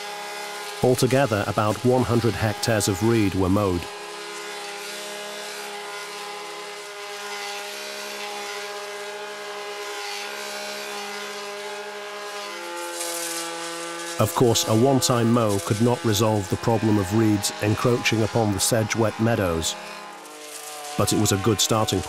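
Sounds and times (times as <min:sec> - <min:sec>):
brush cutter engine running: 0:00.0 - 0:22.0.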